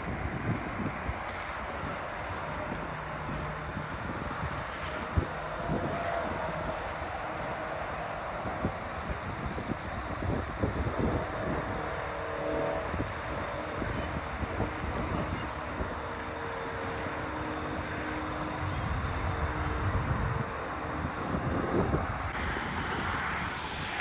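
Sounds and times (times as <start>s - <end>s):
highway traffic: 0.0s - 24.0s
wind rumbling on microphone: 0.0s - 24.0s.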